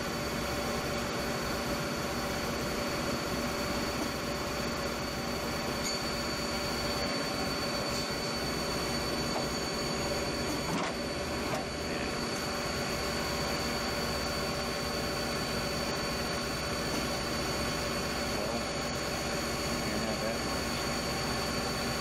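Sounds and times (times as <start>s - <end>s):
high even whine: 0.0s - 22.0s
lathe mechanical hum: 0.0s - 22.0s.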